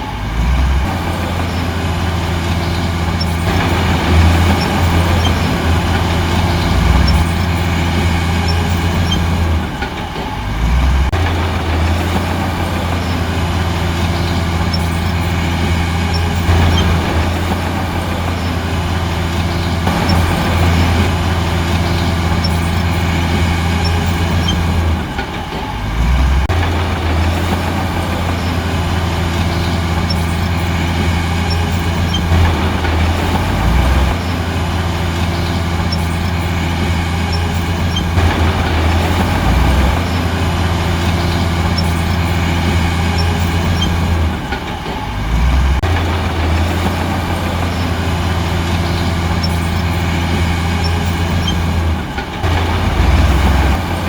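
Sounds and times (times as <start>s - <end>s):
earthmoving machine diesel engine: 0.0s - 54.0s.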